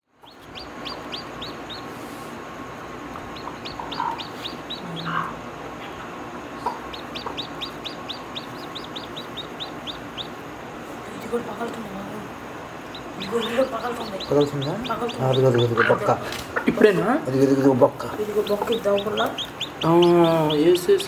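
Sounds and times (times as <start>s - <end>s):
chicks peeping: 0.1s - 21.0s
hen clucking: 0.2s - 21.0s.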